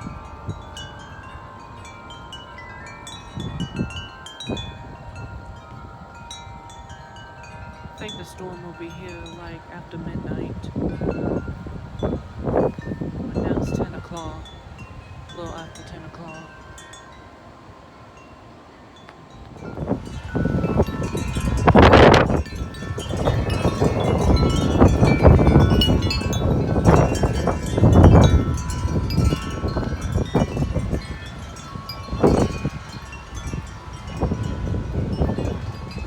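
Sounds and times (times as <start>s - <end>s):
wind buffeting microphone: 0.0s - 36.0s
wind chimes ringing: 0.0s - 36.0s.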